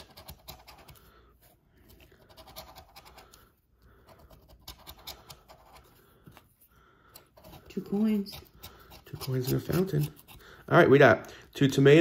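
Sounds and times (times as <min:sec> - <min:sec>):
scratching lottery ticket: 0:00.0 - 0:06.2, 0:07.2 - 0:11.0.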